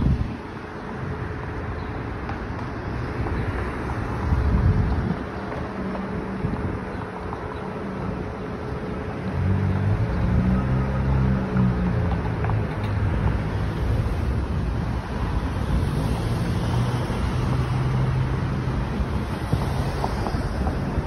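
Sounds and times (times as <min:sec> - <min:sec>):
cars driving past: 0:00.0 - 0:21.0
wind rumble on microphone: 0:00.0 - 0:21.0.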